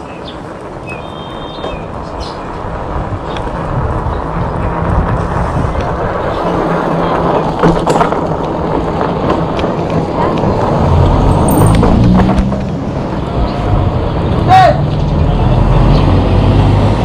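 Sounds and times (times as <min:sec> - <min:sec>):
tyre rumble on concrete road: 0:00.0 - 0:17.0
wind rushing over microphone: 0:00.0 - 0:17.0.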